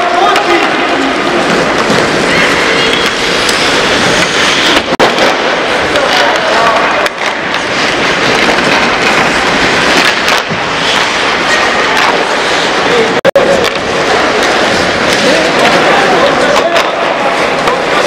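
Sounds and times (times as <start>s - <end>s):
hockey sticks and puck clacking: 0.0s - 18.0s
skates scraping ice: 0.0s - 18.0s
steady rink hiss: 0.0s - 18.0s.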